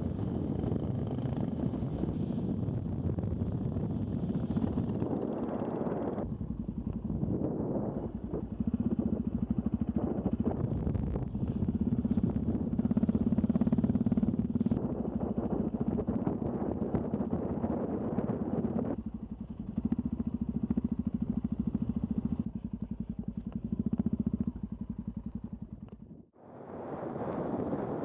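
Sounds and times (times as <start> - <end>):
motorcycle engine running: 0.0 - 26.4
wind on microphone: 0.0 - 28.0.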